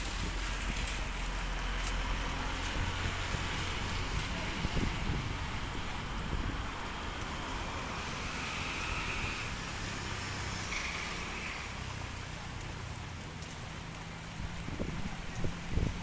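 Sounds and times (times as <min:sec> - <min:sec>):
light drizzle falling: 0:00.0 - 0:16.0
traffic on wet road: 0:00.0 - 0:16.0.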